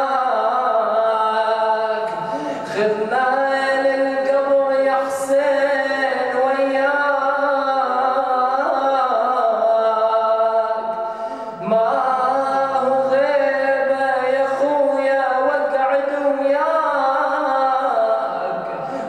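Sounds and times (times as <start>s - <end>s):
man chanting unaccompanied: 0.0s - 19.0s.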